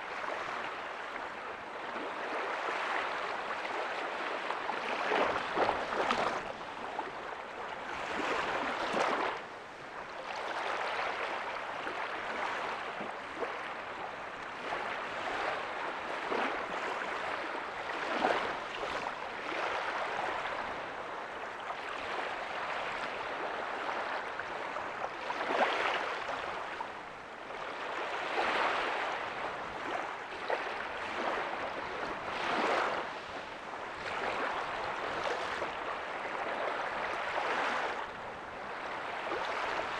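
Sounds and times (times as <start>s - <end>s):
surf washing on a beach: 0.0s - 39.9s.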